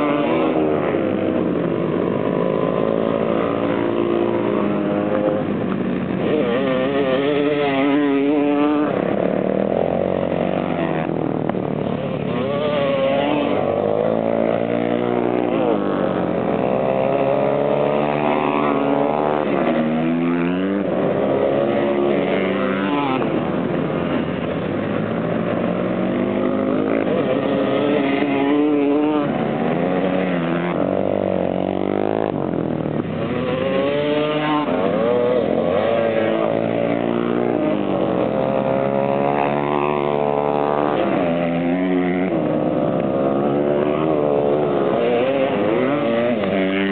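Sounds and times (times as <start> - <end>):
dirt bike engines racing: 0.0 - 46.9.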